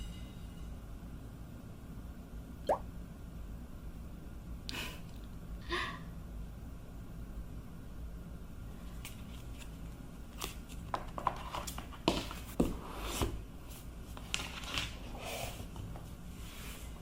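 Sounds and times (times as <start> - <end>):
low steady room hum: 0.0 - 17.0.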